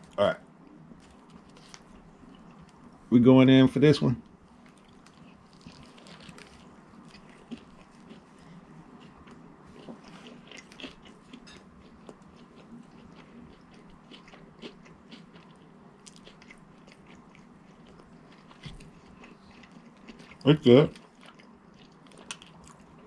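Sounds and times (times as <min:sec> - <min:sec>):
chewing and crunching: 0:00.0 - 0:03.0, 0:04.6 - 0:23.0.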